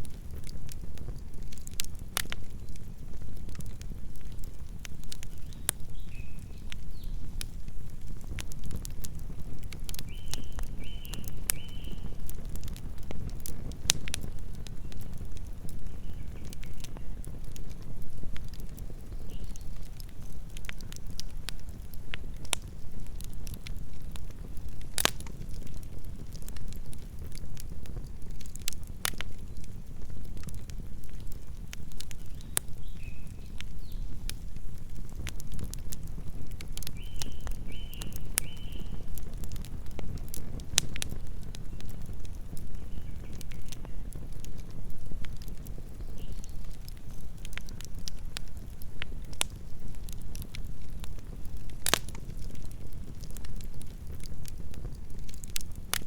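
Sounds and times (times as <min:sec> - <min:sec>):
burning wood crackling and popping: 0:00.0 - 0:56.0
low rumble of flames: 0:00.0 - 0:56.0.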